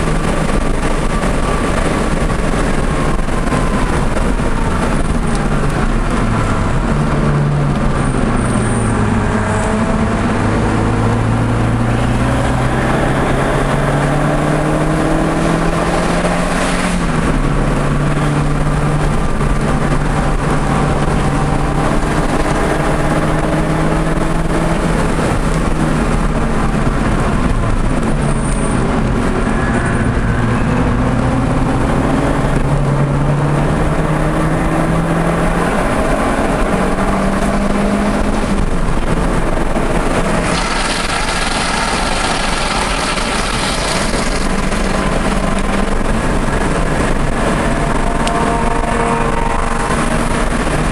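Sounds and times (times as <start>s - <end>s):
car engine revving on track: 0.0s - 50.9s
road and wind noise: 0.0s - 50.9s.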